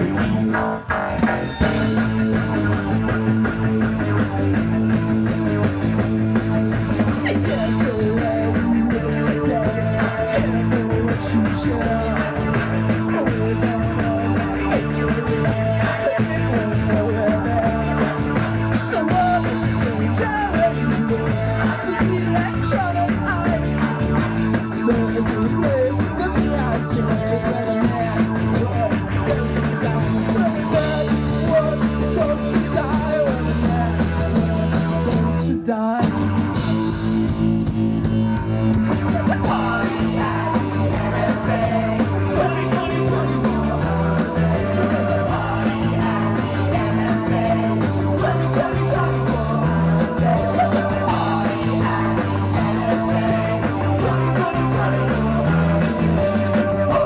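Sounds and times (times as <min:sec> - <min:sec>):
bass guitar: 0:00.0 - 0:57.0
drums: 0:00.0 - 0:57.0
electric guitar: 0:00.0 - 0:57.0
lead vocal singing: 0:00.0 - 0:57.0.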